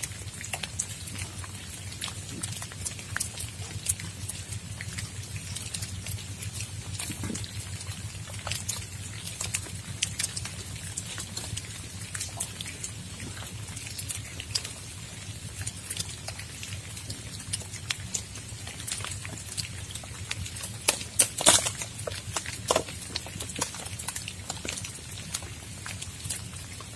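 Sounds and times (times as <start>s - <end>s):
raindrops tapping on tent: 0.0s - 26.9s
steady low rumble: 0.0s - 26.9s.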